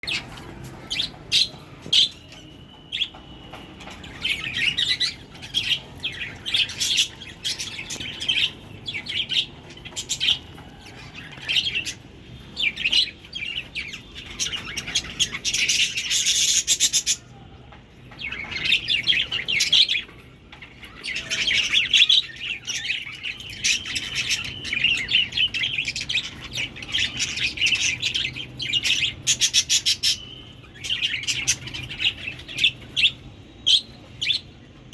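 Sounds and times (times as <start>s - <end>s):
budgerigars chirping and warbling: 0.0s - 17.4s, 18.1s - 34.9s.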